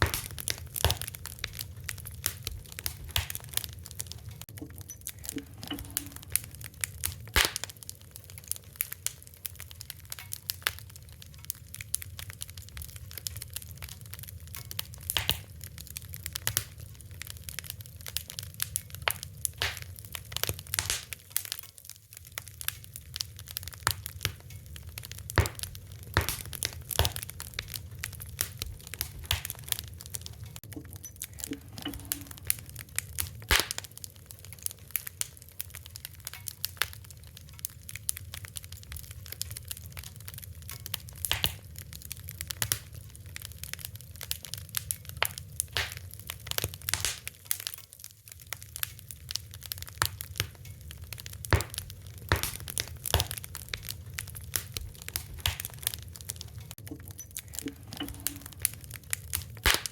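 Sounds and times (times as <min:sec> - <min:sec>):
fire crackling: 0:00.0 - 0:59.9
low fire rumble: 0:00.0 - 0:59.9.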